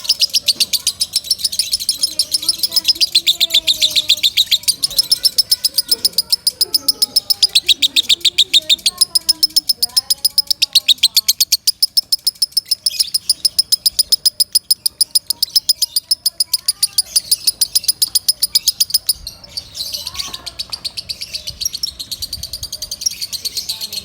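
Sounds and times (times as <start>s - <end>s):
lovebird chirping: 0.0s - 24.0s.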